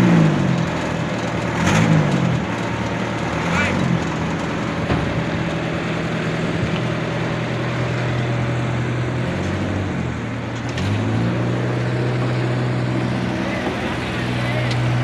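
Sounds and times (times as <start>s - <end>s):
paving machine engine running: 0.0s - 15.0s.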